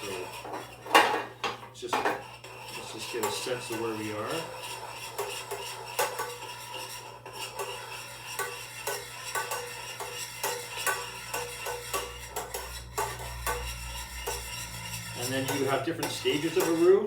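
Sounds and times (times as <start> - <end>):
utensil scraping metal pan: 0.0 - 17.0.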